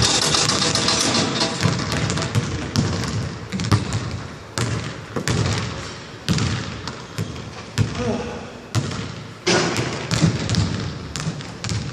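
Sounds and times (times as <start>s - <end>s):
basketball bouncing on wooden floor: 0.0s - 11.9s.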